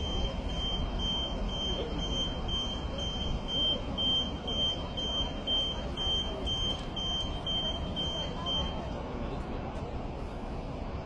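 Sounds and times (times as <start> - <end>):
high-pitched warning beeps: 0.0 - 9.0
street noise: 0.0 - 11.0.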